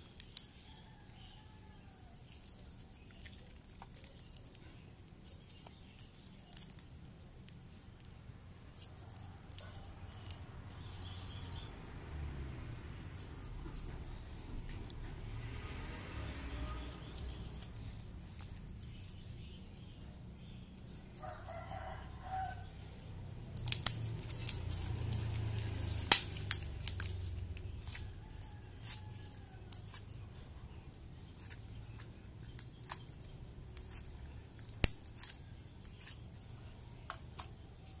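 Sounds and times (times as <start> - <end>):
slime squelching: 2.0 - 11.7, 12.6 - 38.0.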